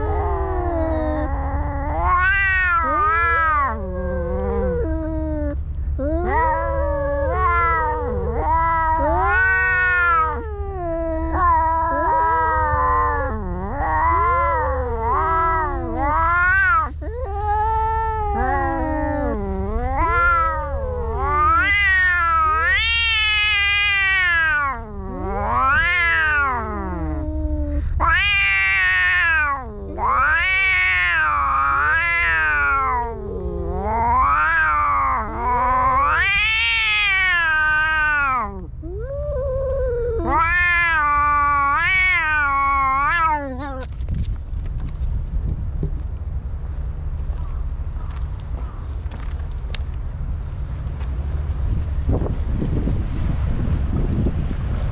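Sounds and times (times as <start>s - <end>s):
cats yowling: 0.0s - 44.3s.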